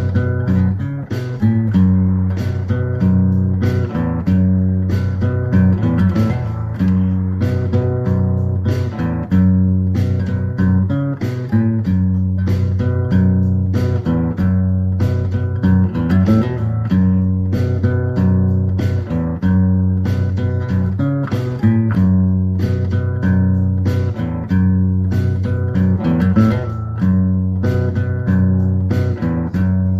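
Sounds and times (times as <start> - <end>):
guitar instrumental music: 0.0 - 29.9
steady bass line: 0.0 - 29.9.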